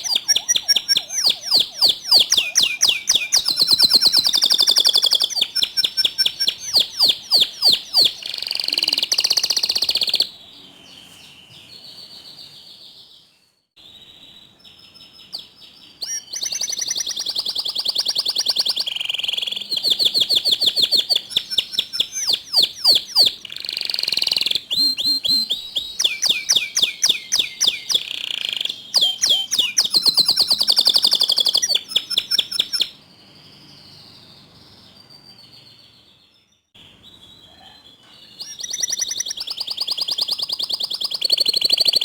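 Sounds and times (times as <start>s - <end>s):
canary singing trills: 0.0s - 42.0s.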